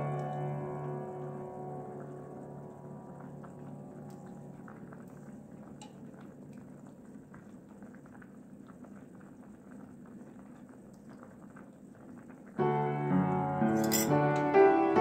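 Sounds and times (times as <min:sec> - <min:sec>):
soup bubbling in a pot: 0:00.2 - 0:12.7.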